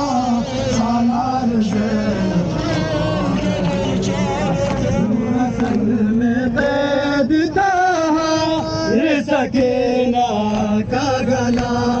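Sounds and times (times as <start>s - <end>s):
man chanting a lament: 0.0s - 12.0s.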